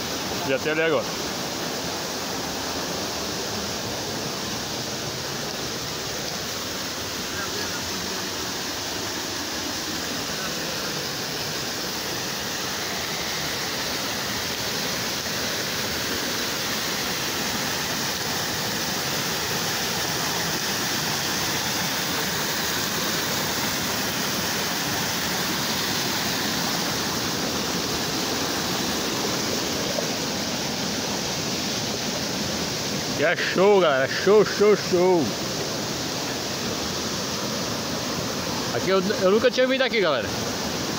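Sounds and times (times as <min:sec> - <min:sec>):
water cascading over rocks: 0:00.0 - 0:40.9.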